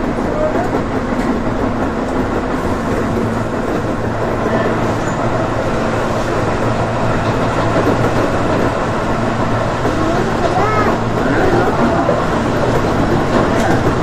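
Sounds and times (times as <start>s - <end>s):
low train hum: 0.0s - 14.0s
train wheels rumbling on rail: 0.0s - 14.0s.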